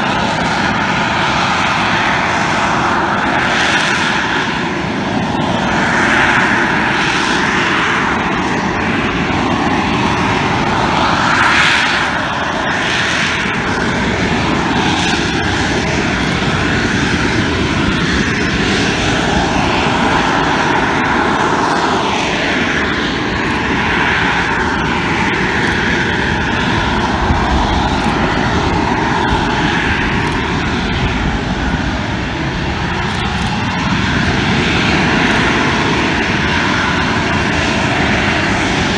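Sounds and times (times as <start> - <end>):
jet engine roar and whine: 0.0 - 38.9.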